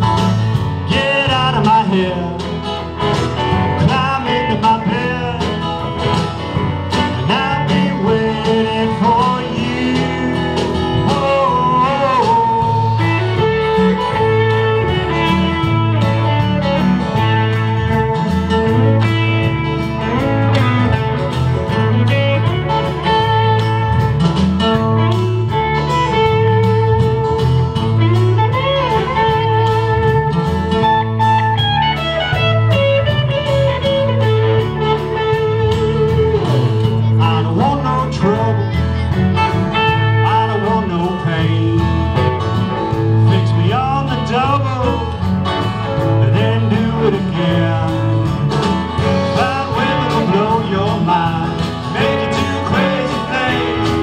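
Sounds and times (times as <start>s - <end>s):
bass line: 0.0s - 54.0s
drums: 0.0s - 54.0s
electric guitar lead: 0.0s - 54.0s
strummed acoustic guitars: 0.0s - 54.0s.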